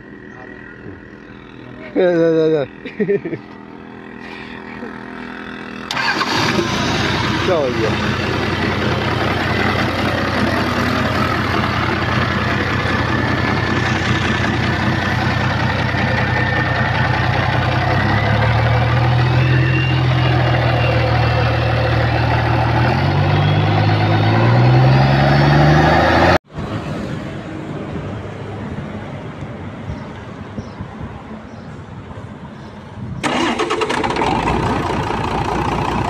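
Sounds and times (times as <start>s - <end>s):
truck engine running and revving: 0.0s - 28.8s, 33.2s - 36.0s.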